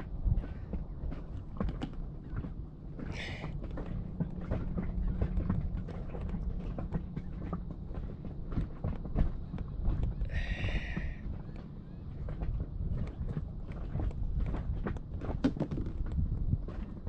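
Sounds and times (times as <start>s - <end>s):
knocks and taps in inflatable boat: 0.0s - 17.0s
wind rumble on microphone: 0.0s - 17.0s.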